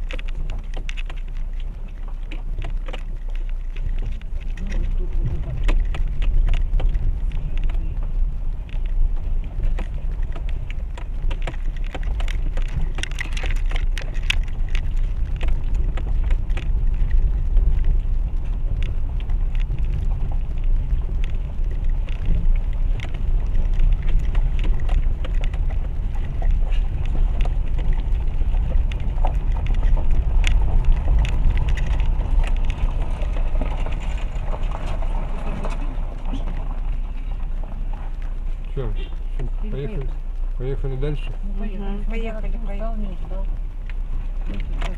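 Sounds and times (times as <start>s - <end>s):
car engine and tyres rumbling: 0.0s - 44.9s
stones knocking under wheels: 0.0s - 44.9s.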